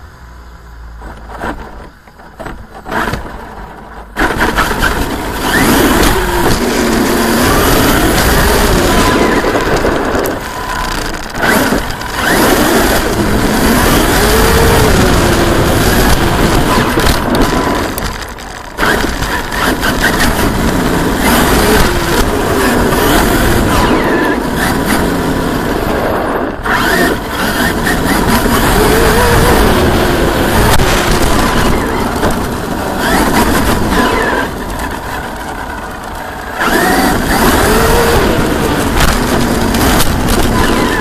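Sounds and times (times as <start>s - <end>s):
tires on dirt road: 0.0s - 41.0s
electric motor whine: 4.2s - 41.0s.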